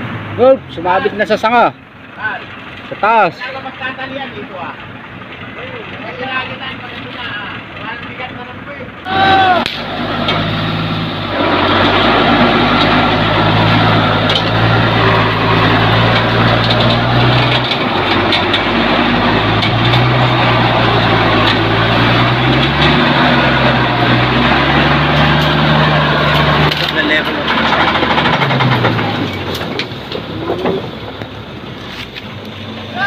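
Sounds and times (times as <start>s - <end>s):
truck engine running hard: 0.0s - 33.0s.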